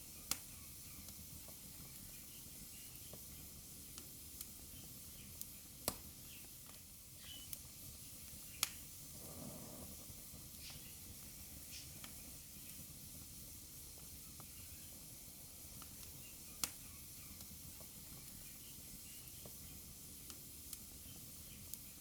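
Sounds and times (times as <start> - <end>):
fire crackling and popping: 0.0 - 22.0
wood fire hissing: 0.0 - 22.0.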